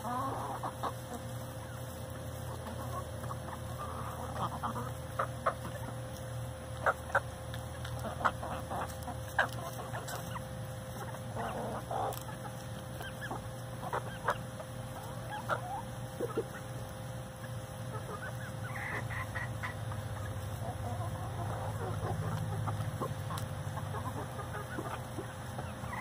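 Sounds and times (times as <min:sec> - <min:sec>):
hens clucking softly: 0:00.0 - 0:26.0
hens pecking in bowl: 0:00.0 - 0:26.0.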